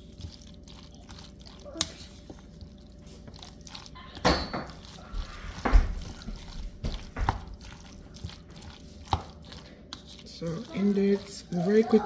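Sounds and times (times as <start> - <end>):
wet squishing of stirred salad: 0.0 - 12.0.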